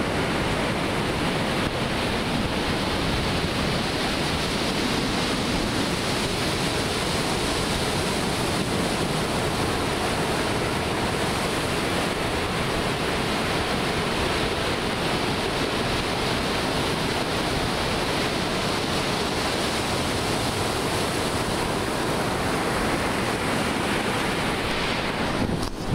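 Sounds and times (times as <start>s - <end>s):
ocean surf breaking: 0.0s - 25.9s.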